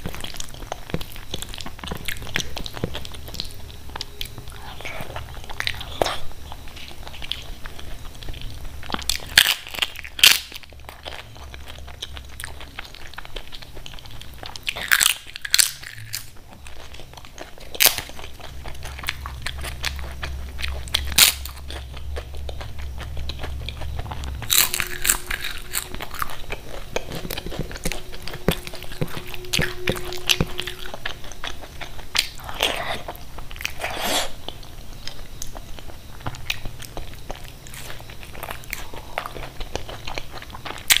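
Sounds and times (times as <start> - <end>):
chewing: 0.0 - 41.0.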